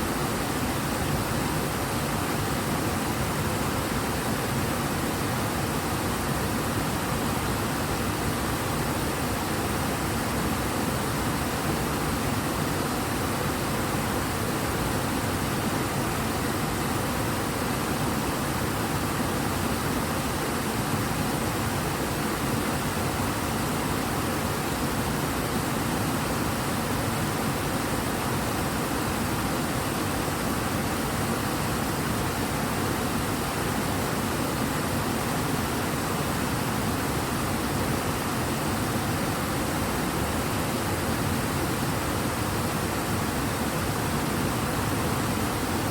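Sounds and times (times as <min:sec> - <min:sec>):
river rushing: 0:00.0 - 0:45.9.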